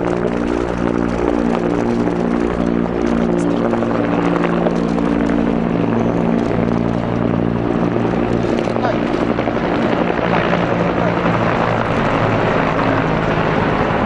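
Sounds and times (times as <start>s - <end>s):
helicopters flying overhead: 0.0s - 14.0s.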